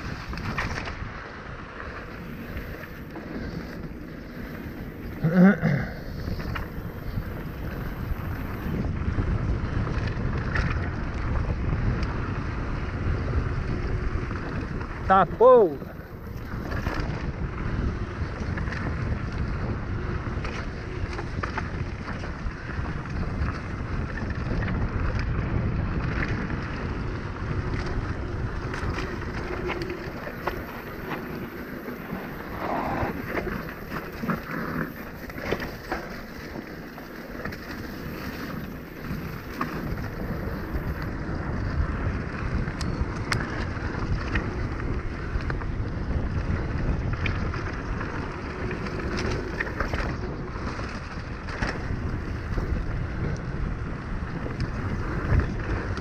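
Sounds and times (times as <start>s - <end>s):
bike rattling and clicking: 0.0s - 56.0s
wind buffeting microphone: 0.0s - 56.0s.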